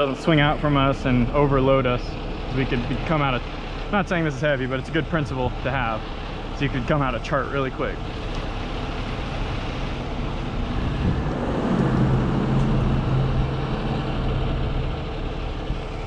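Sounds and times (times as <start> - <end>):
tow truck engine running: 0.0 - 16.0.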